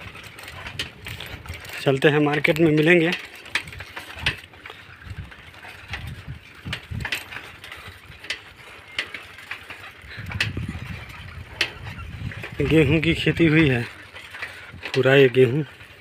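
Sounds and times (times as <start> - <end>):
bicycle rattling over dirt track: 0.0 - 16.0.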